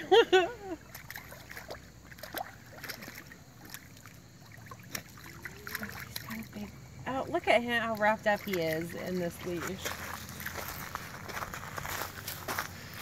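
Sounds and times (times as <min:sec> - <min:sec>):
creek water washing: 0:00.0 - 0:13.0
paws splashing in water: 0:00.8 - 0:06.6, 0:07.8 - 0:12.5.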